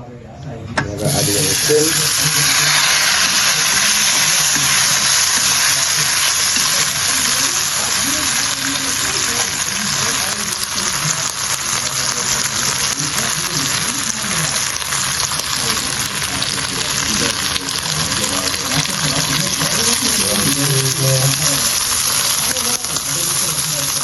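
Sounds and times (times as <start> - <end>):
faint voices: 0.0 - 24.0
food sizzling in a pot: 1.0 - 24.0.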